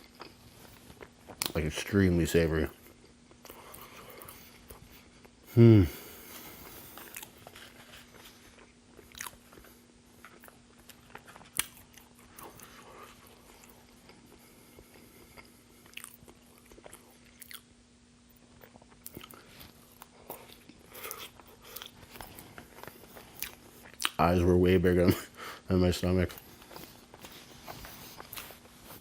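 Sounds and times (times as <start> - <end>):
close chewing of food: 0.0 - 1.7, 2.7 - 25.7, 26.3 - 29.0
faint steady hum: 0.0 - 29.0.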